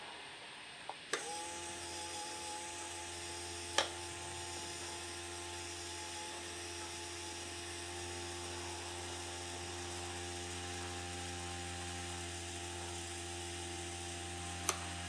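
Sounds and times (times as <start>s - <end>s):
motor whine and hum: 0.0s - 15.0s.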